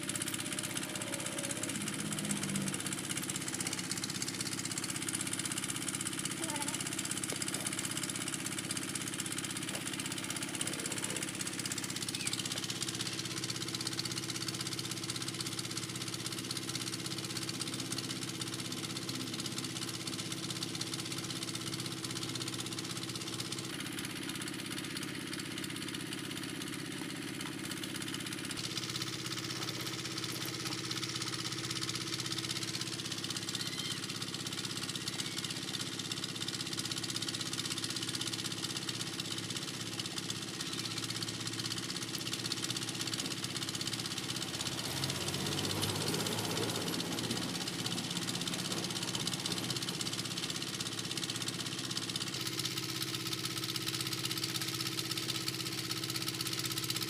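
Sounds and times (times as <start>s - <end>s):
motor running: 0.0s - 57.0s.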